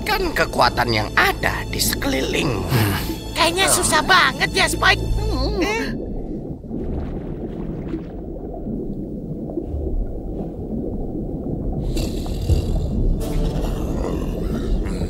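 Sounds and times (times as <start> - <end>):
low underwater rumble: 1.6 - 15.0.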